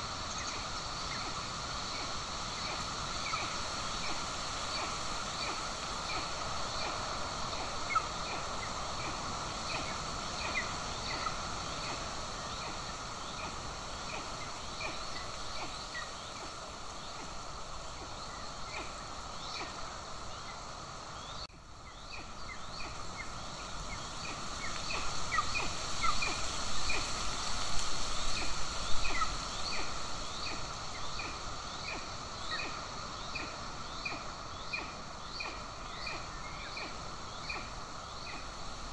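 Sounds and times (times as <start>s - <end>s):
steady hiss: 0.0s - 38.9s.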